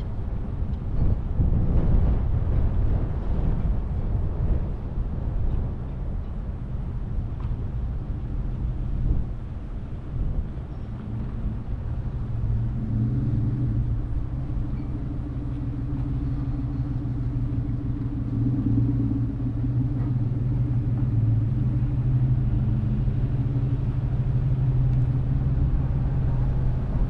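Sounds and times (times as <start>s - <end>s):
car engine hum: 0.0s - 27.0s
road noise rumbling: 0.0s - 27.0s.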